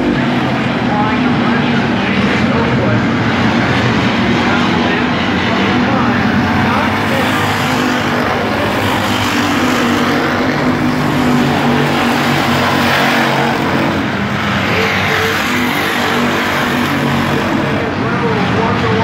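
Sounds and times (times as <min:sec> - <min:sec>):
stock car engines racing: 0:00.0 - 0:19.0.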